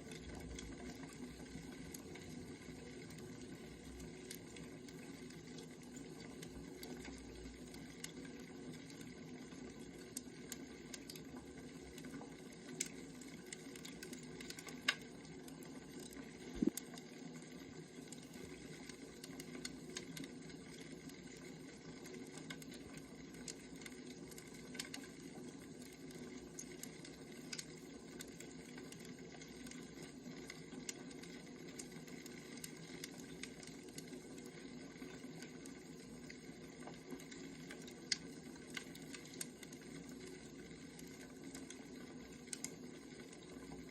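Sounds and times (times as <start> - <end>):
fire crackles and pops: 0.0 - 43.9.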